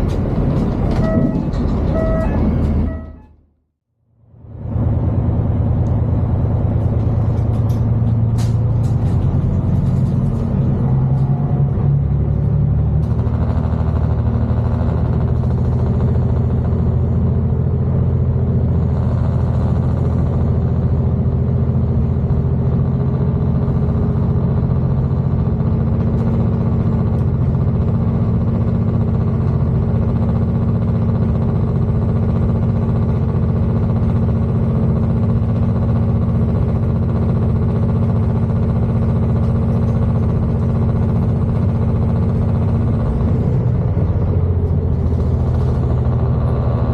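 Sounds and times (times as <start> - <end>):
train running noise: 0.0 - 3.4, 4.4 - 46.9
train diesel engine drone: 0.0 - 46.9.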